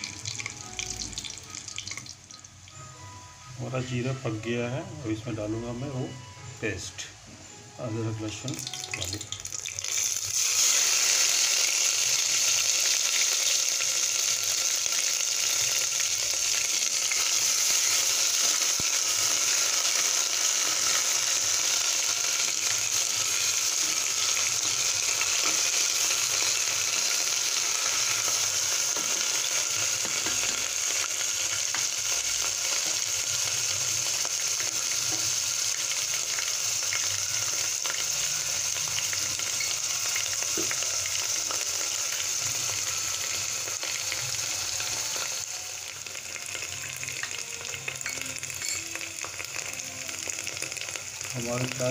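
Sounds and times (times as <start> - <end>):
paste sizzling in hot oil: 8.2 - 51.9.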